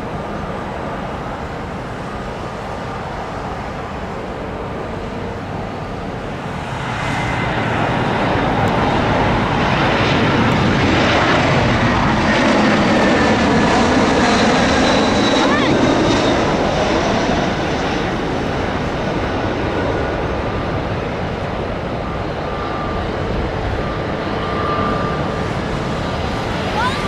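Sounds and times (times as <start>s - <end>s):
high engine whine: 0.0s - 27.0s
jet engines rushing: 0.0s - 27.0s.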